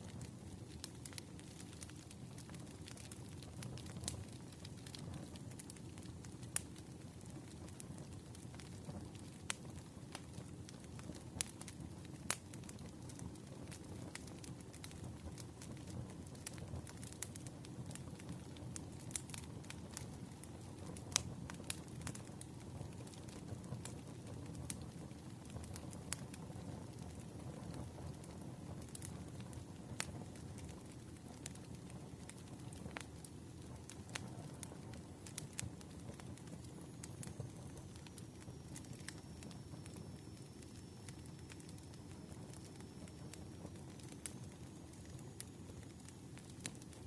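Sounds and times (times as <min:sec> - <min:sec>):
campfire flames rumbling: 0:00.0 - 0:47.0
fire crackles and pops: 0:00.0 - 0:47.0.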